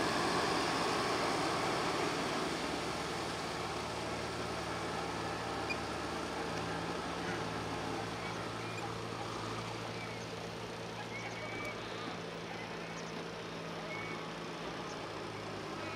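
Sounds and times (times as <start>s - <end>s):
tractor diesel engines running: 0.0s - 15.9s.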